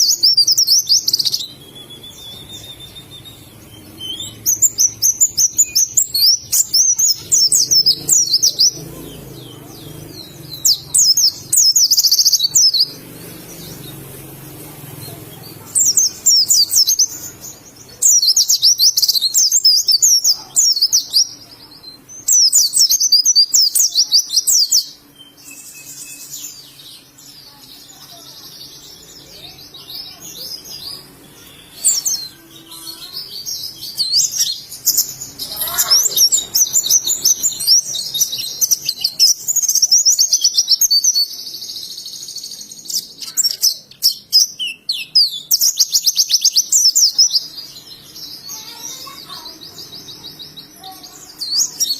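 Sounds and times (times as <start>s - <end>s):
bird twittering song: 0.0s - 51.9s.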